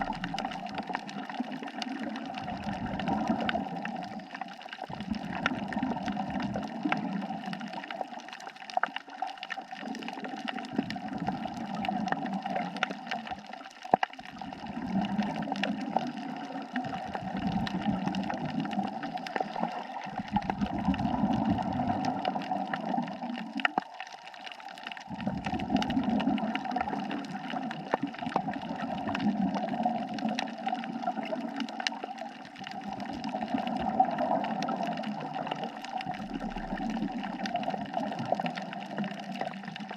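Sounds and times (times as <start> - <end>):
underwater bubbles rushing: 0.0 - 39.9.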